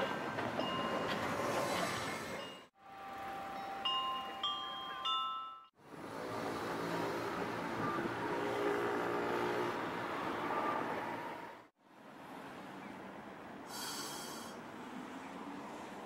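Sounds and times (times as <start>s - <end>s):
street traffic: 0.0s - 16.0s
streetcar passing: 0.0s - 16.0s.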